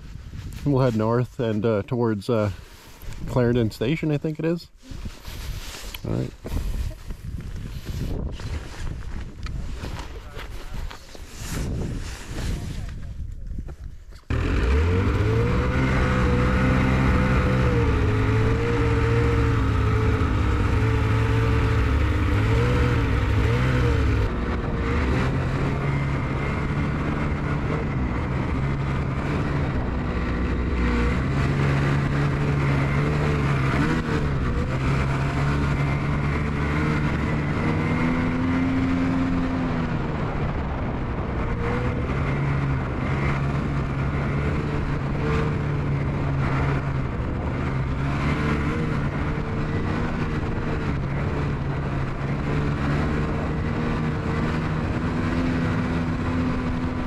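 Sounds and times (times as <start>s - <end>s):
snowmobile engine running: 0.4s - 13.2s, 14.2s - 57.0s.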